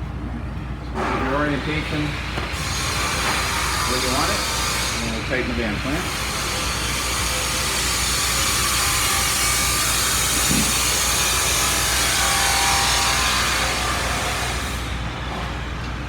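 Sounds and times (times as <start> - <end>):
hissing power tool: 1.5 - 15.3.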